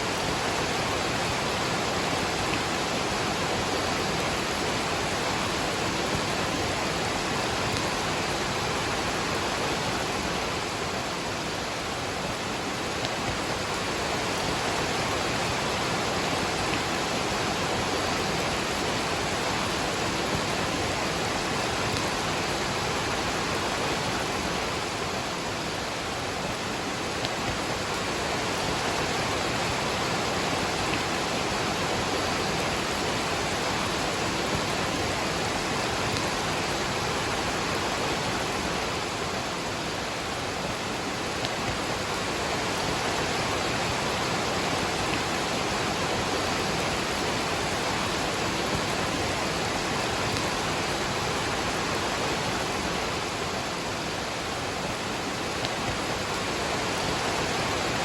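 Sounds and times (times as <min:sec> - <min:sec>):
rain falling: 0:00.0 - 0:58.0
waterfall rushing: 0:00.0 - 0:58.0.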